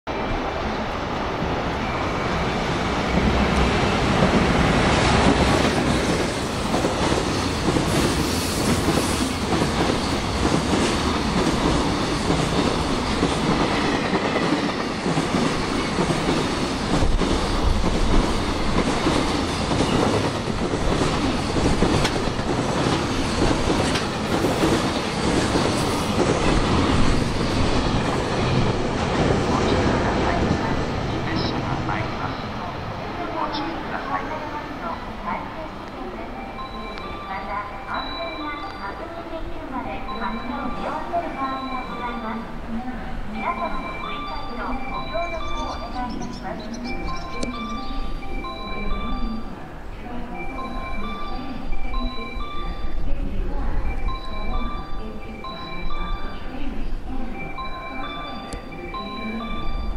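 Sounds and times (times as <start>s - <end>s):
freight train rolling past: 0.1s - 59.9s.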